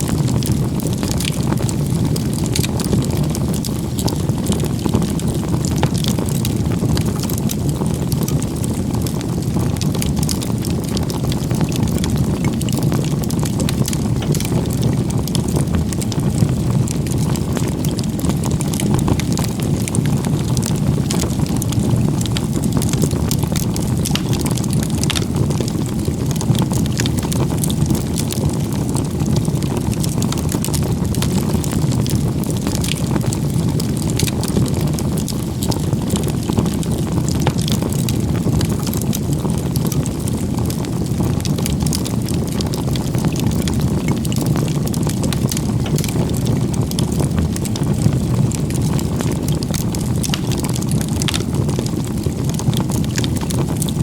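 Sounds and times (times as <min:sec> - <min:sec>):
low rush of flame: 0:00.0 - 0:54.0
wood crackling and popping: 0:00.0 - 0:54.0.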